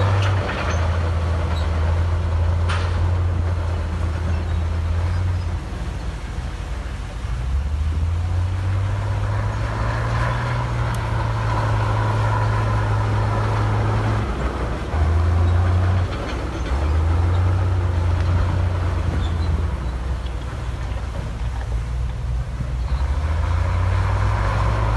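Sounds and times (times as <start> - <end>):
heavy diesel engine droning: 0.0 - 24.9.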